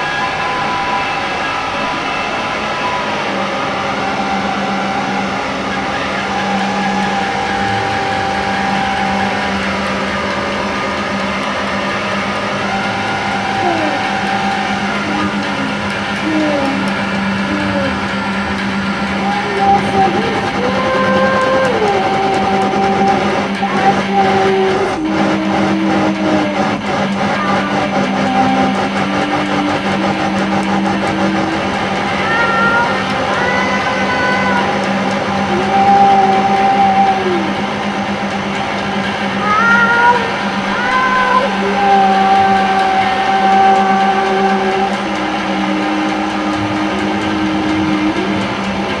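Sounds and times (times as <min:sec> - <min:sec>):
distorted noise music: 0:00.0 - 0:49.0
held higher tone: 0:00.0 - 0:49.0
low drone: 0:00.0 - 0:49.0.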